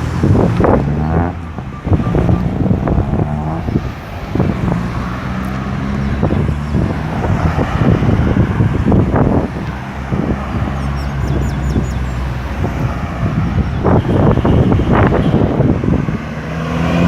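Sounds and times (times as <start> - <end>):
cars passing by: 0.0 - 17.0
vehicle engines humming: 0.0 - 17.0.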